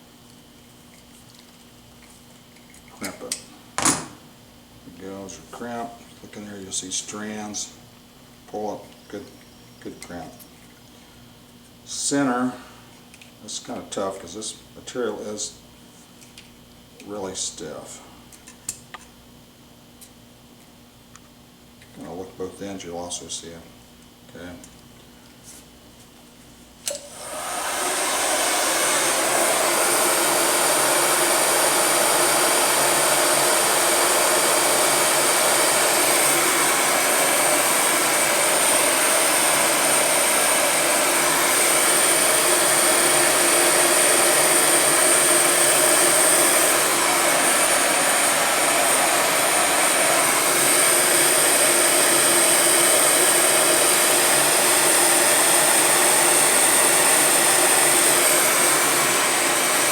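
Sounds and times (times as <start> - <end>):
heat gun fan whine: 0.0 - 59.9.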